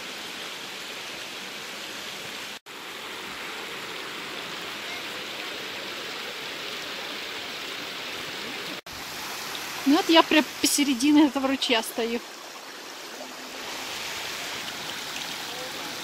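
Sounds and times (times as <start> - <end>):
creek running over rocks: 0.0 - 16.0.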